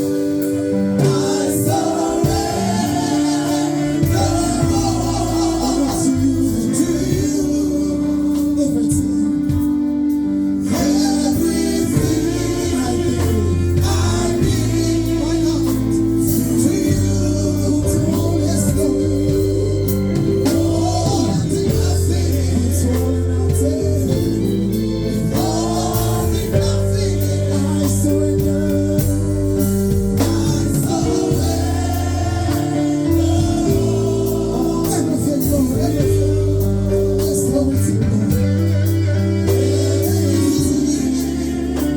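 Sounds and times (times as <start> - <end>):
gospel band playing: 0.0 - 41.9
people singing: 0.0 - 41.9.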